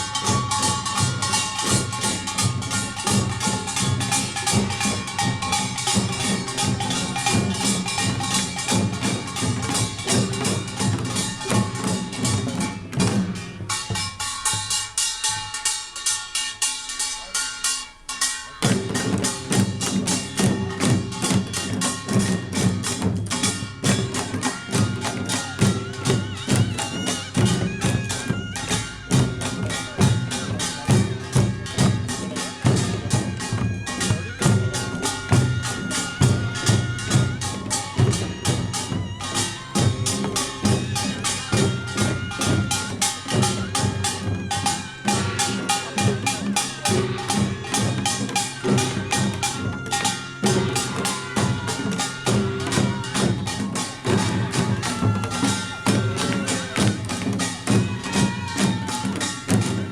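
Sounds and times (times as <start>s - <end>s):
small gongs clanging: 0.0s - 59.8s
drums playing: 0.0s - 59.9s.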